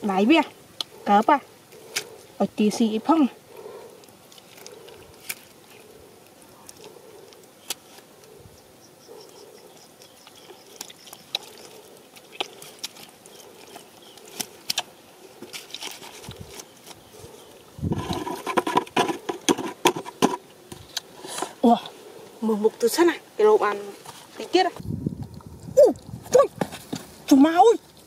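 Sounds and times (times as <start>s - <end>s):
faint insect buzz: 0.0s - 28.0s.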